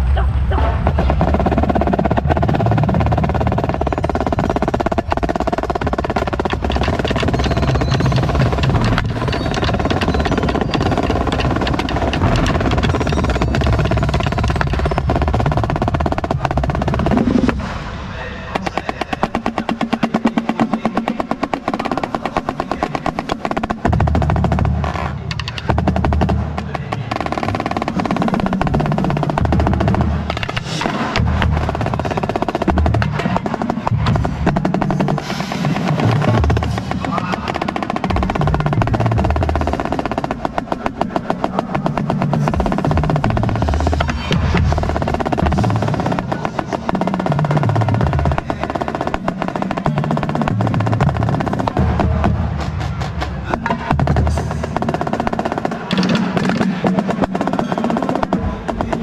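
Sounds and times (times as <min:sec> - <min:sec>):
marching snare drum rolls: 0:00.6 - 0:59.0.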